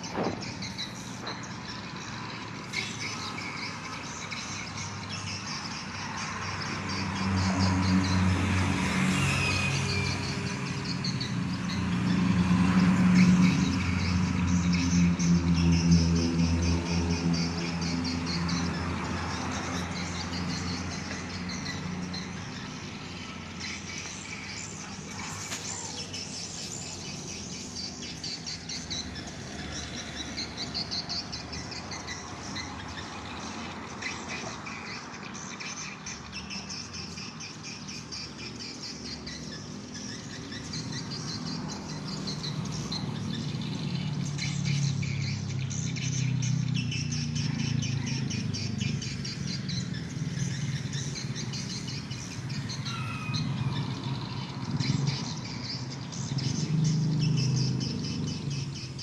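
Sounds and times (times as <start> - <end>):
birds twittering: 0.0 - 59.0.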